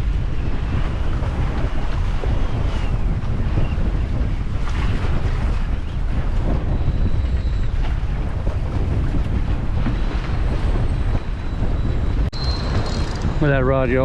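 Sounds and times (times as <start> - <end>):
boat engine rumble: 0.0 - 14.0
wind buffeting microphone: 0.0 - 14.0.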